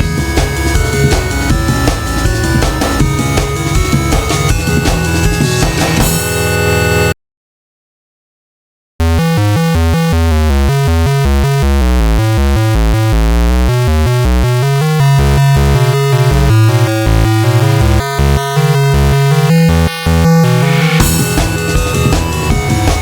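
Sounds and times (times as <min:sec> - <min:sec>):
synthesizer music with deep bass: 0:00.0 - 0:07.1, 0:09.0 - 0:23.0.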